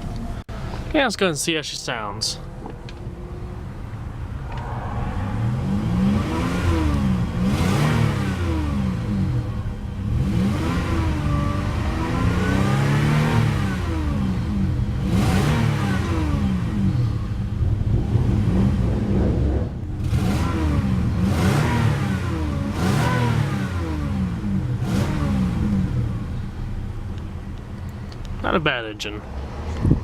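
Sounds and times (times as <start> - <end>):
car engine revving: 2.3 - 30.0.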